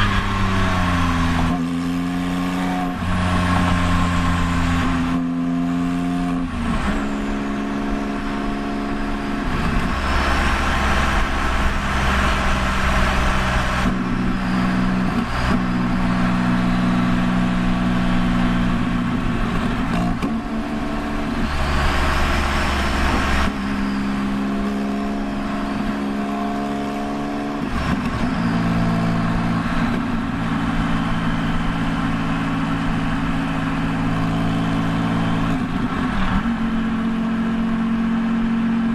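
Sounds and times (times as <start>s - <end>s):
sports car exhaust while driving: 0.0s - 38.9s.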